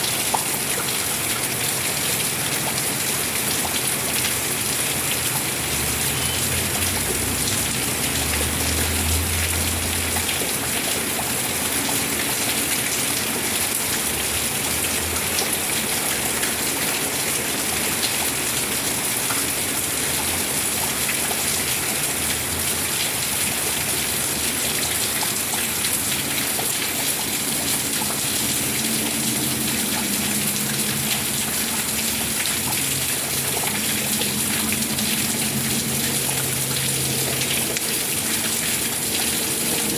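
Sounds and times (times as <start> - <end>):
steady rain hissing: 4.0 - 39.9.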